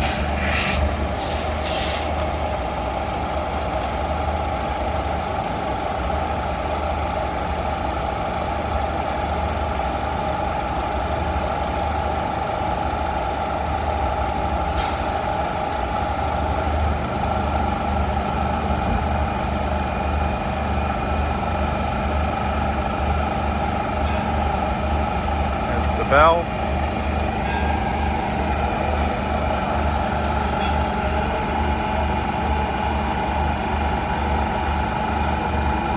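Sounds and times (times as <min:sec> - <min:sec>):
diesel train engine idling: 0:00.0 - 0:35.9.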